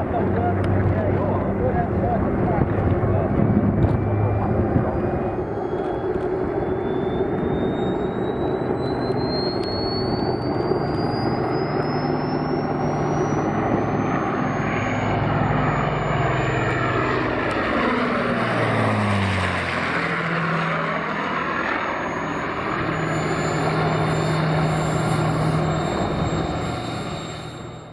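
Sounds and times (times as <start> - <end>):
bomber engines flying overhead: 0.0 - 27.9.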